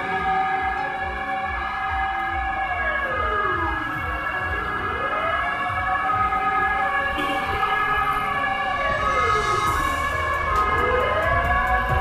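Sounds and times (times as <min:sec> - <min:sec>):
fire truck siren wailing: 0:00.0 - 0:12.0
low rumble of traffic: 0:00.0 - 0:12.0.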